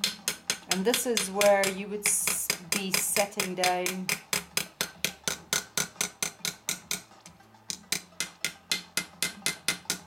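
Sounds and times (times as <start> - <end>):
hammer tapping on metal: 0.0 - 10.0.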